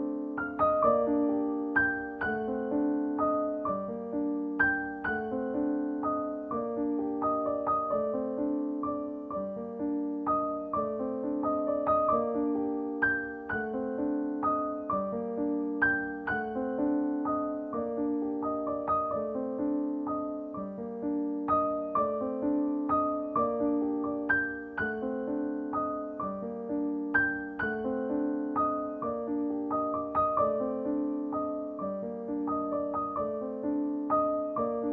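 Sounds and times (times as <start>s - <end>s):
gentle piano music: 0.0s - 34.9s.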